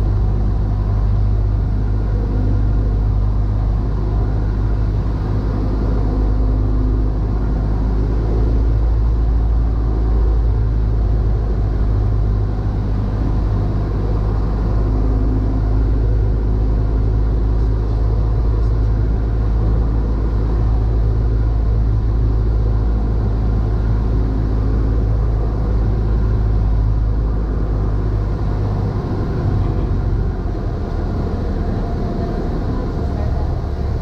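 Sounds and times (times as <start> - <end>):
propeller plane engine drone: 0.0 - 34.0.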